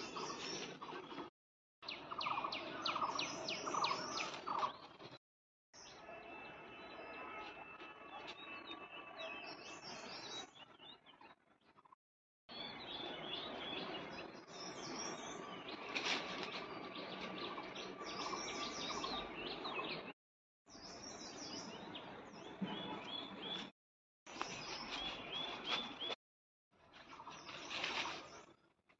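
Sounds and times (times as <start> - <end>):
songbirds chirping: 0.0 - 5.2, 5.8 - 23.7, 24.3 - 26.2, 26.8 - 28.9.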